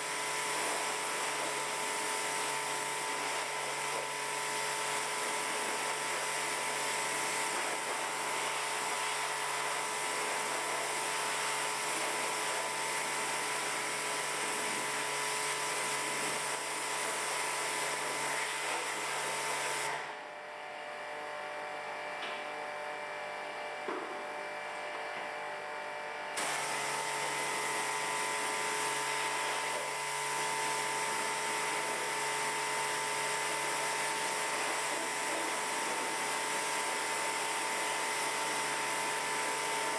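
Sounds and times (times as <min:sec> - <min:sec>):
pressure washer motor hum: 0:00.0 - 0:39.9.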